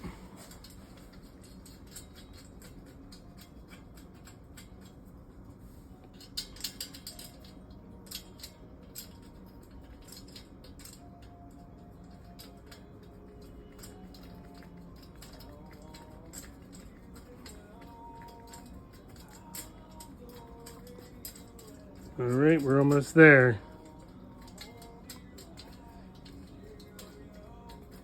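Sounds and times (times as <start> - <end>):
metallic clicks and clinks: 0.4 - 28.0.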